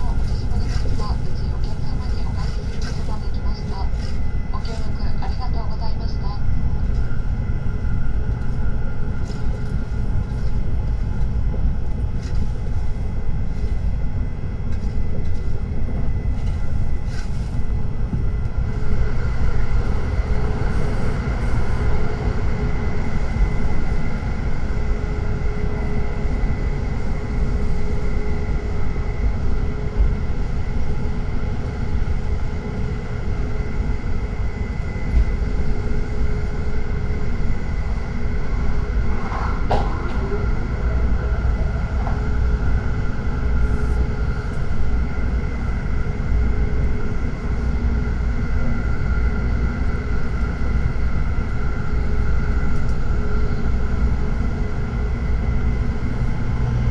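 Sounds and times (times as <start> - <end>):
train interior low rumble: 0.0 - 56.9.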